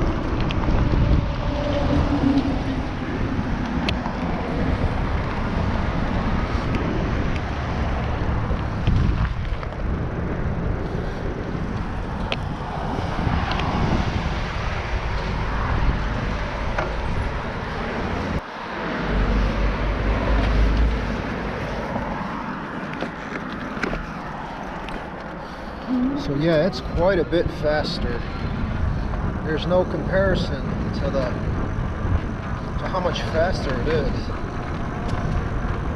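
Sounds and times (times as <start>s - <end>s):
tyres rolling over rough ground: 0.0s - 19.2s, 19.9s - 25.4s, 26.2s - 35.9s
wind rushing over microphone: 0.0s - 35.9s.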